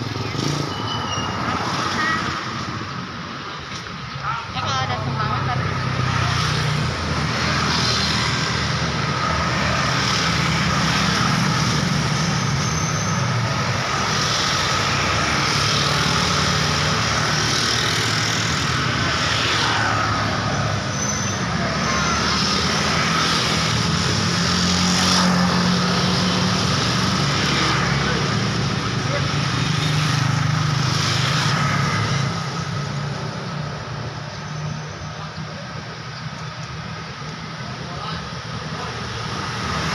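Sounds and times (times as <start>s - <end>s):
vehicle engines passing: 0.0s - 39.9s.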